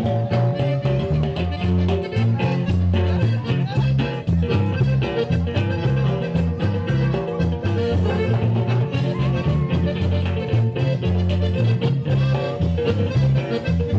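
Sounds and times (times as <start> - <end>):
upbeat latin dance music: 0.0 - 13.9.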